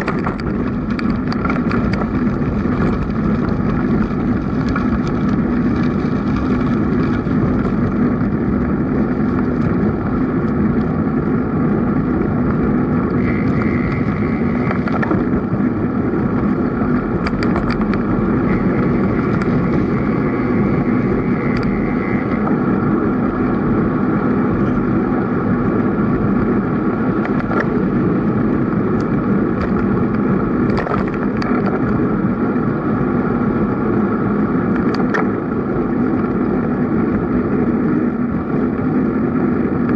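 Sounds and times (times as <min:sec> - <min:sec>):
bicycle rolling hum: 0:00.0 - 0:39.9
wind: 0:00.0 - 0:39.9.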